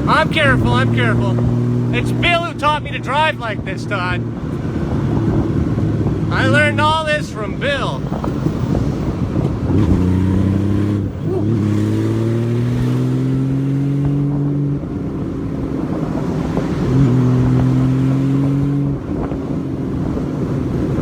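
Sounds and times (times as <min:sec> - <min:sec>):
motorcycle engine accelerating: 0:00.0 - 0:07.0, 0:08.1 - 0:21.0.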